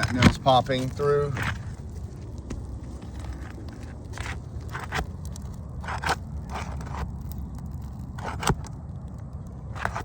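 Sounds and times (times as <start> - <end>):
roof shingles scraping and crackling: 0.0 - 10.0.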